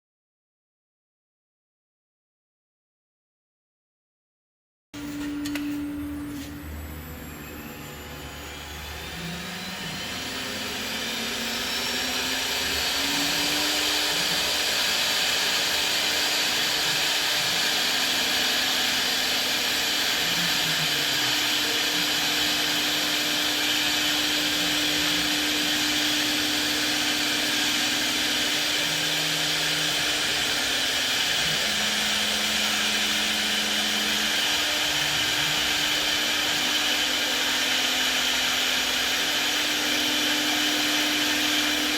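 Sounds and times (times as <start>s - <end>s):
cnc router whirring: 5.0s - 41.9s.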